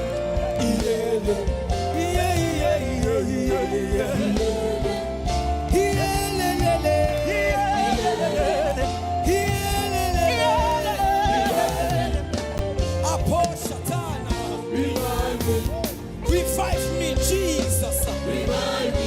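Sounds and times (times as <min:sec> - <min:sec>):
band with low bass: 0:00.0 - 0:19.0
gospel singers holding notes: 0:00.0 - 0:19.0.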